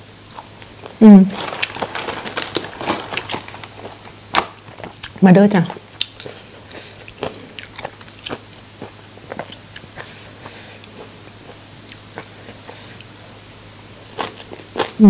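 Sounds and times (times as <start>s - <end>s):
chewing crunchy fried food: 0.2s - 15.0s.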